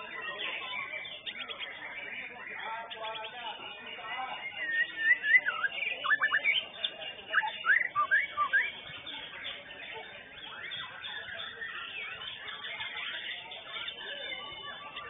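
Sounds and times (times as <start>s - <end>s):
bird whistled song: 0.2s - 3.4s, 4.2s - 15.0s.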